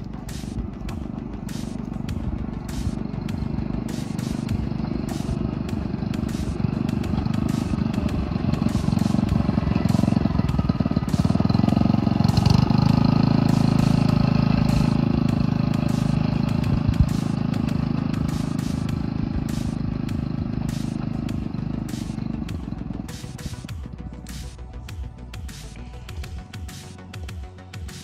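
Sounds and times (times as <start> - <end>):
wheels clattering on rails: 0.0 - 23.8
small engine running: 0.0 - 28.0.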